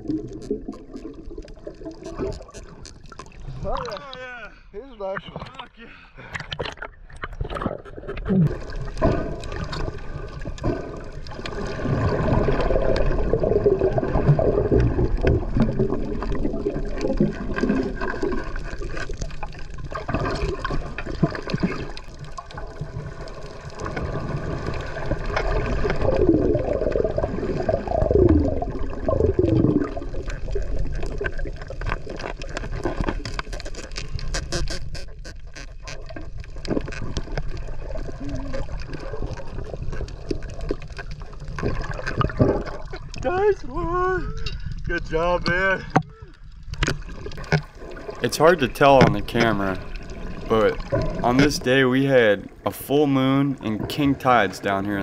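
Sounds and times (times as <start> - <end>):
underwater gurgling and bubbling: 0.0 - 4.0, 6.4 - 55.0.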